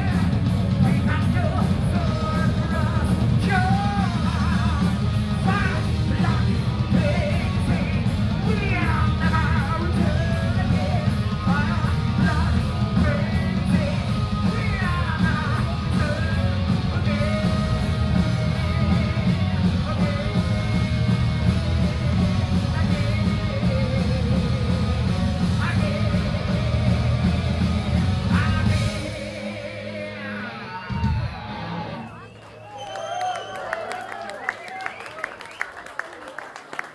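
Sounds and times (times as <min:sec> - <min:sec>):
man singing: 0:00.0 - 0:31.3
metal band playing: 0:00.0 - 0:32.1.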